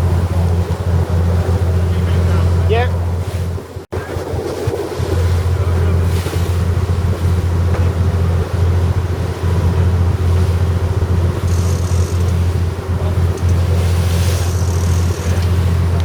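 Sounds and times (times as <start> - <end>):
boat engine droning: 0.0 - 16.0
sea noise: 0.0 - 16.0
wind noise on microphone: 0.0 - 16.0.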